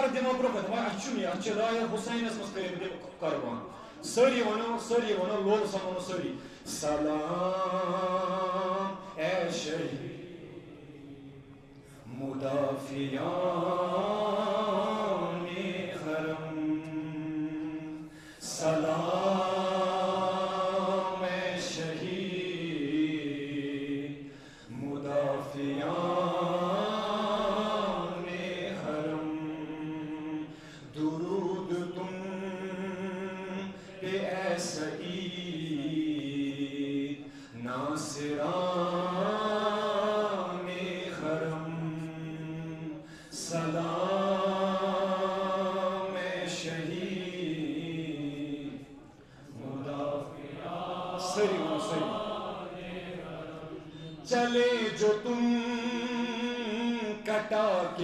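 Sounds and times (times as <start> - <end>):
man chanting: 0.0 - 24.1, 24.7 - 48.8, 54.2 - 58.0.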